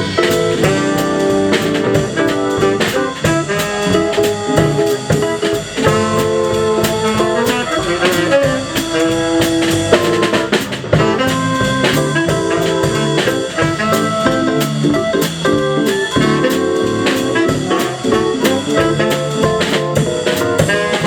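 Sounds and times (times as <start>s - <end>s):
brass instruments: 0.0s - 21.0s
drum kit with rimshots: 0.0s - 21.0s.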